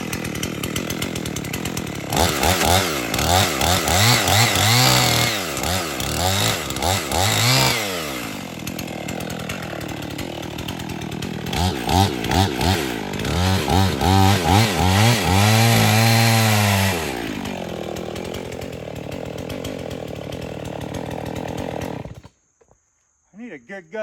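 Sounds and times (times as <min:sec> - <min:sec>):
chainsaw revving and idling: 0:00.0 - 0:22.3.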